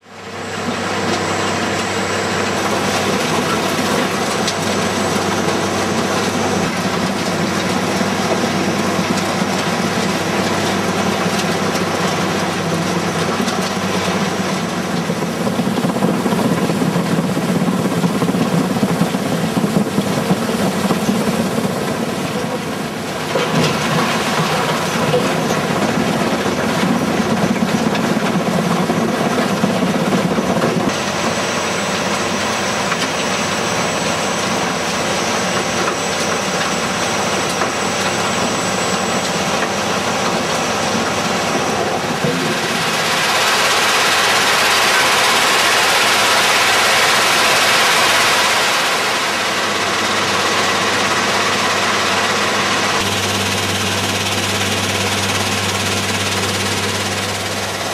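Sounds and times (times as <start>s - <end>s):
crushing machine engine: 0.0s - 57.9s.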